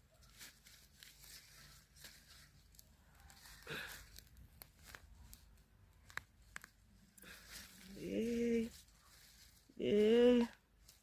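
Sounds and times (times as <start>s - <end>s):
rustle: 0.0s - 11.0s
soil and roots scraping: 0.1s - 11.0s.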